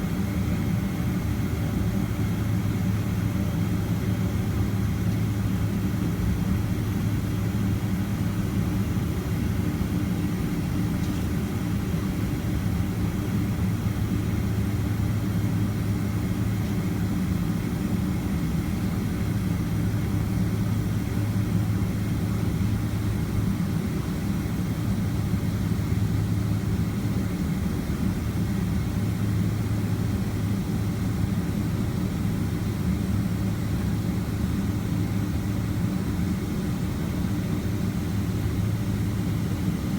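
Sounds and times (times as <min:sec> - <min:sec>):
cabin airflow: 0:00.0 - 0:39.9.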